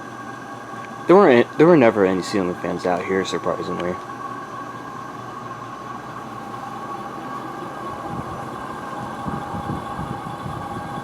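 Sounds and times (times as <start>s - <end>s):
ceiling fan humming: 0.0s - 11.0s.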